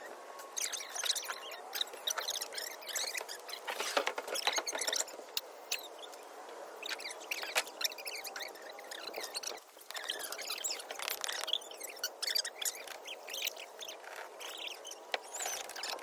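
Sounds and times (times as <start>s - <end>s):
high-pitched chirps and squeaks: 0.5s - 6.2s, 6.8s - 16.0s.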